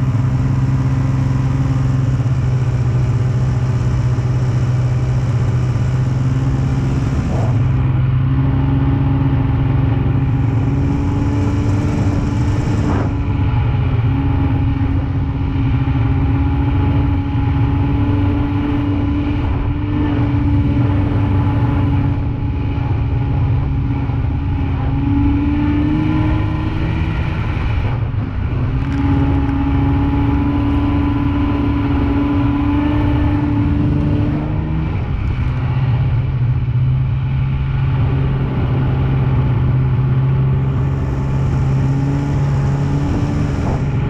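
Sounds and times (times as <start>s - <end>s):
snowmobile engine running: 0.0s - 44.0s.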